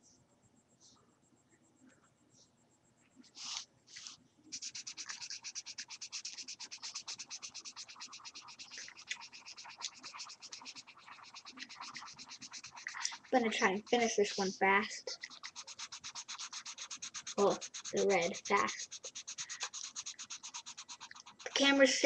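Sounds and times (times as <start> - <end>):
felt-tip marker scribbling on paper: 3.4 - 22.0.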